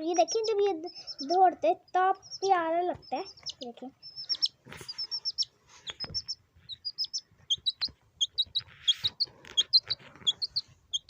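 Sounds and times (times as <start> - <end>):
chick peeping: 0.0 - 11.0.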